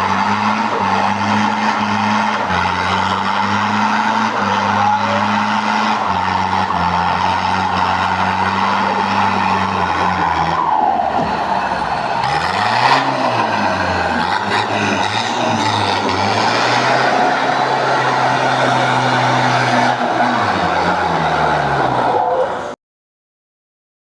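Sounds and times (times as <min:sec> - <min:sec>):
tyres on gravel: 0:00.0 - 0:22.7
engine running under load: 0:00.0 - 0:22.8.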